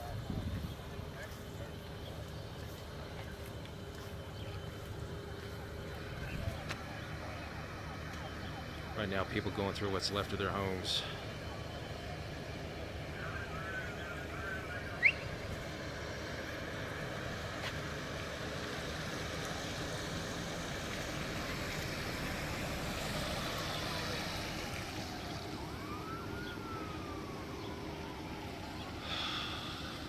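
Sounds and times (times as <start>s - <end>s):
emergency siren wailing: 0.0s - 30.0s
outdoor background noise: 0.0s - 30.0s.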